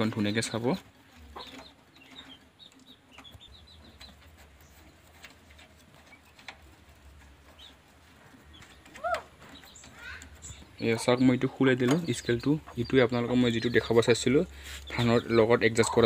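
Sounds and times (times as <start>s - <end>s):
faint chickens clucking: 0.0s - 16.0s
small birds chirping: 0.0s - 16.0s.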